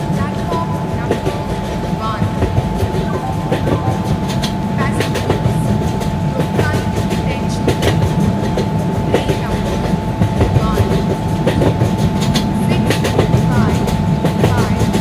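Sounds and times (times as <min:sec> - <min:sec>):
high hum: 0:00.0 - 0:15.0
train wheels rumbling on rails: 0:00.0 - 0:15.0.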